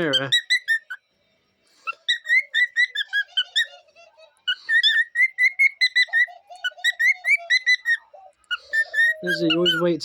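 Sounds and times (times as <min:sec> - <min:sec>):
cockatiels whistling: 0:00.0 - 0:01.0, 0:01.8 - 0:03.8, 0:04.5 - 0:10.0
soft low bird chatter: 0:00.0 - 0:10.0.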